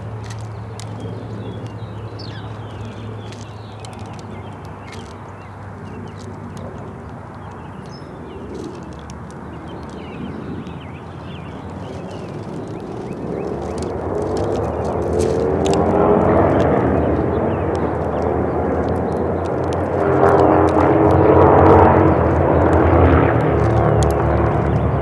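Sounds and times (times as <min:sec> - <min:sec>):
sharp clicks: 0:00.0 - 0:25.0
small birds chirping: 0:00.0 - 0:25.0.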